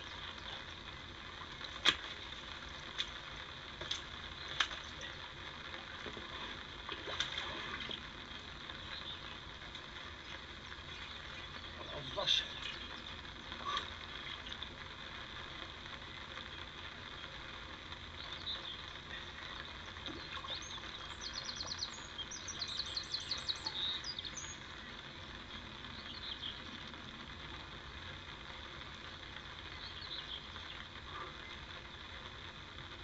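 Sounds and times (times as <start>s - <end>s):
songbird singing: 0.0s - 32.3s
outdoor background noise: 0.0s - 33.0s.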